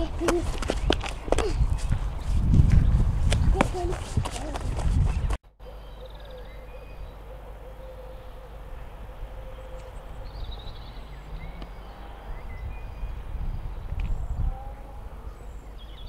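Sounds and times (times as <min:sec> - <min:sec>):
faint birds chirping: 0:00.0 - 0:03.9, 0:04.9 - 0:16.0.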